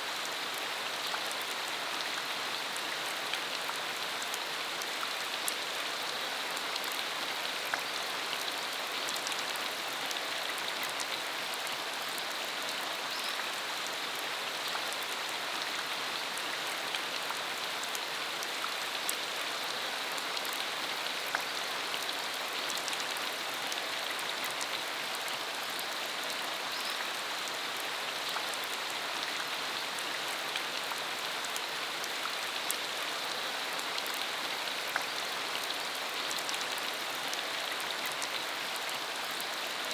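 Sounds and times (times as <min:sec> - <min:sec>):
rain falling on dirt road: 0:00.0 - 0:39.9.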